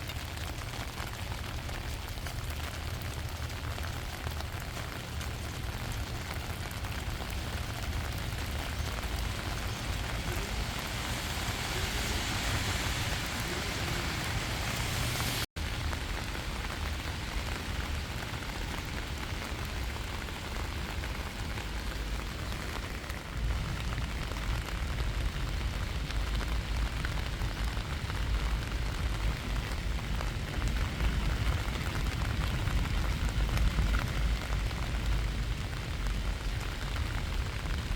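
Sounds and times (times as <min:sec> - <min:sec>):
rain falling: 0:00.0 - 0:37.9.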